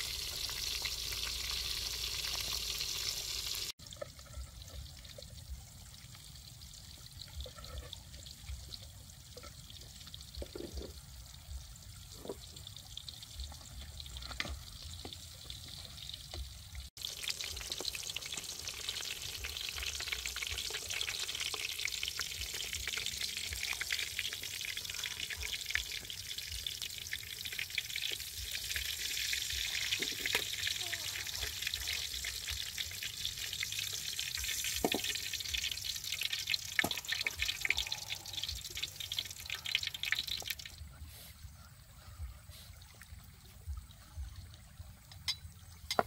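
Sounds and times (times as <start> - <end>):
fish sizzling in hot oil: 0.0 - 40.7.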